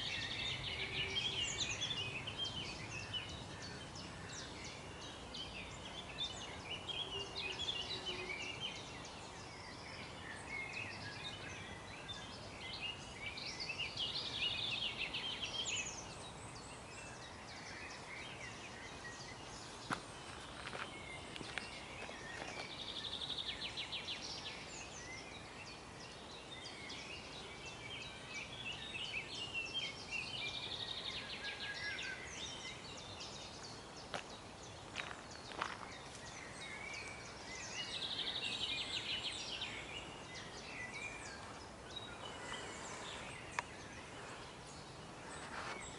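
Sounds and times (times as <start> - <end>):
songbirds chirping and singing: 0.0 - 45.9.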